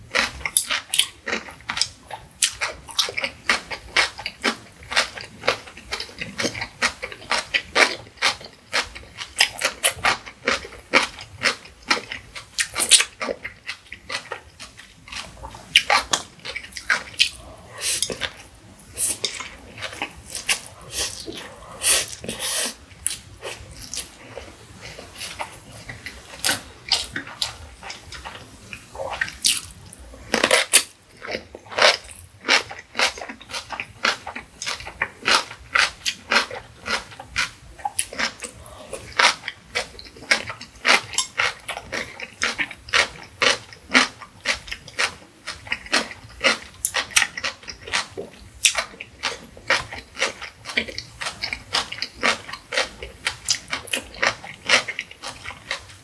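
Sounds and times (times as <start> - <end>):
chewing crisp food: 0.0 - 56.0.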